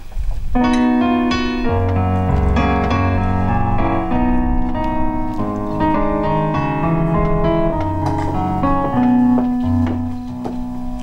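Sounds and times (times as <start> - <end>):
piano playing: 0.5 - 11.0.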